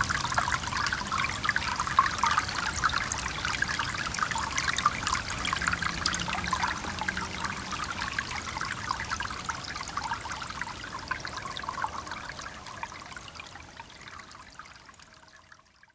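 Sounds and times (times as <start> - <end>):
stream trickling and gurgling: 0.0 - 15.9.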